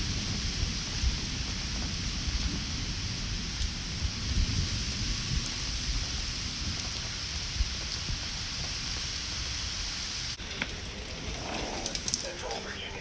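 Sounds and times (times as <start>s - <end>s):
low rumble: 0.0s - 13.0s
steady rain hiss: 0.0s - 13.0s.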